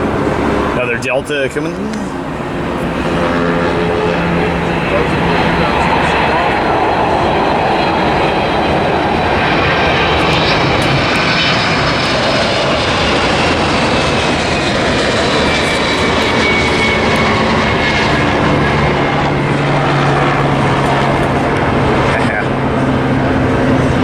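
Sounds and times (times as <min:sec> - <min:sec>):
jet airliner passing by: 0:00.0 - 0:24.0.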